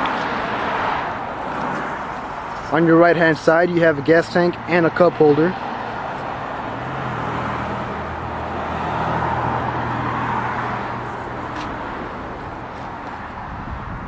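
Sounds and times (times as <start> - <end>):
vehicle passing: 0.0 - 14.0.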